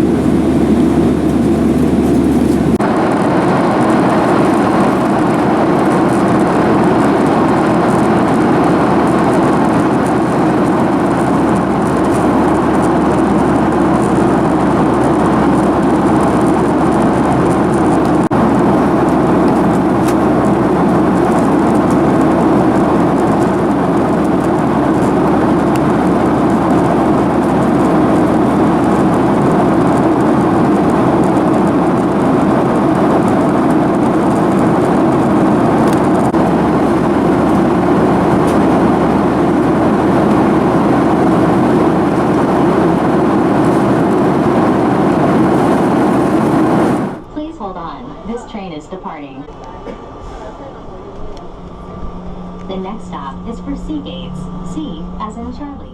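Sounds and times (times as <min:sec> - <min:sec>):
rushing air: 0:00.0 - 0:47.2
jet engine roar in cabin: 0:00.0 - 0:55.9.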